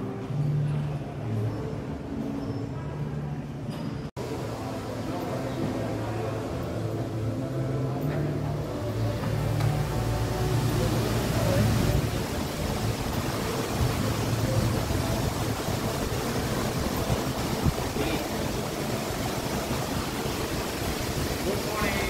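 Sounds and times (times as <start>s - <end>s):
street traffic rushing: 4.2s - 22.0s.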